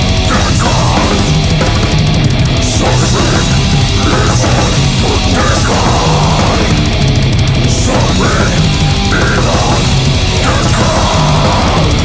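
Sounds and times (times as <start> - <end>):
distorted electric guitars: 0.0 - 12.0
fast dense drumming: 0.0 - 12.0.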